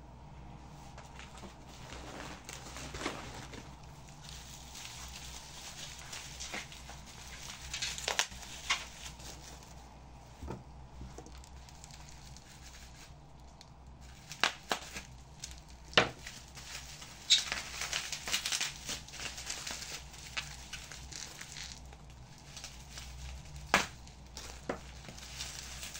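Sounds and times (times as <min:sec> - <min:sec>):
rustling and crinkling: 0:00.6 - 0:25.9.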